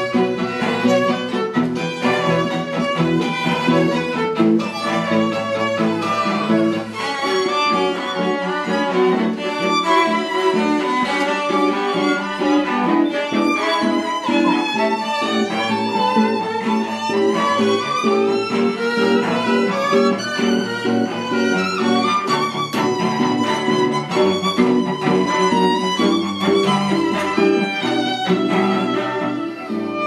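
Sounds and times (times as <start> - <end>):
bowed string music: 0.0 - 30.0
violin melody: 0.0 - 30.0.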